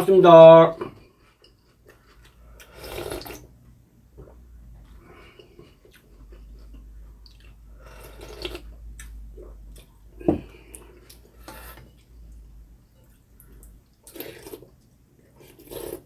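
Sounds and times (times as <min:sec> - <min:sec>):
slurping and chewing: 0:01.0 - 0:03.6, 0:04.2 - 0:12.4, 0:13.0 - 0:16.0.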